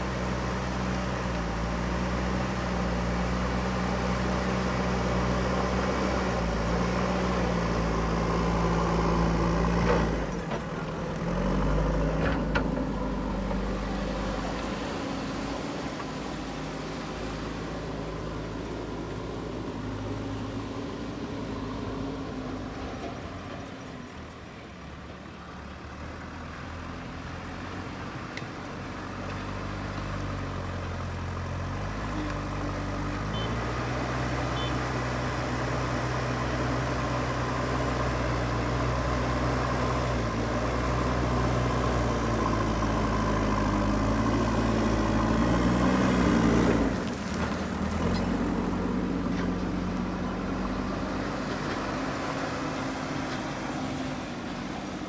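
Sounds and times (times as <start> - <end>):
diesel engine revving under load: 0.0 - 23.0, 29.5 - 55.0.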